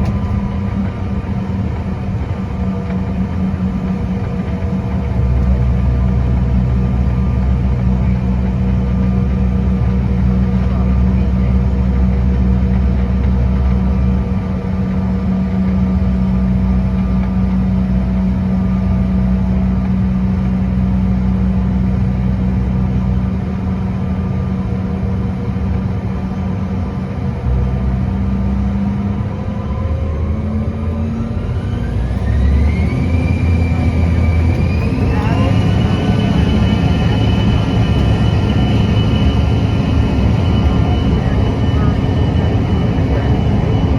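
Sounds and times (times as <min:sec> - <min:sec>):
jet engines humming at idle: 0:00.0 - 0:43.9
jet engines spooling up whine: 0:00.0 - 0:43.9.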